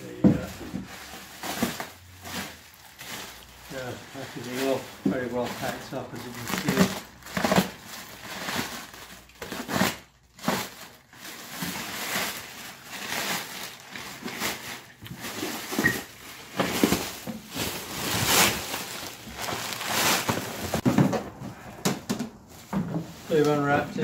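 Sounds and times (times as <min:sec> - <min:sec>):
plastic film crinkling: 0:00.0 - 0:21.4, 0:22.3 - 0:24.0.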